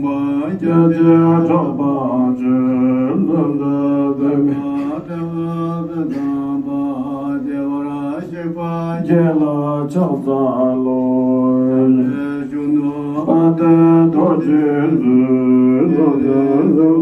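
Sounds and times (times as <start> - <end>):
slow chant-like singing: 0.0 - 17.0.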